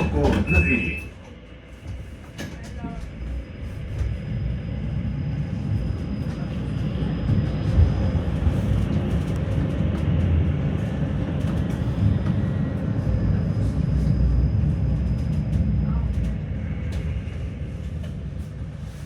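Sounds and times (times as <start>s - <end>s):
tram wheels and motors rumbling: 0.0s - 19.0s.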